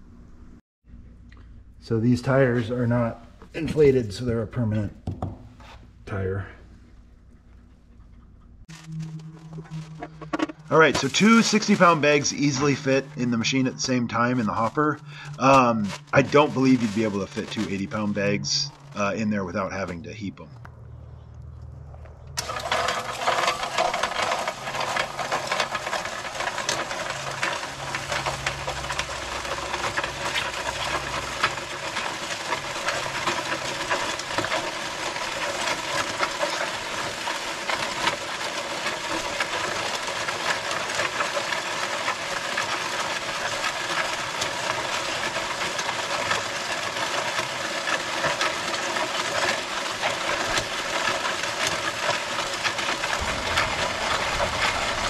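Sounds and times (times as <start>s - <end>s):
concrete mixer running: 1.8s - 55.0s.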